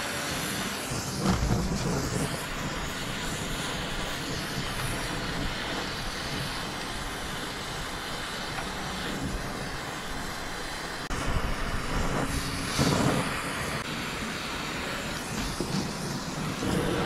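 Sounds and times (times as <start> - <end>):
torch flame hissing: 0.0 - 17.0.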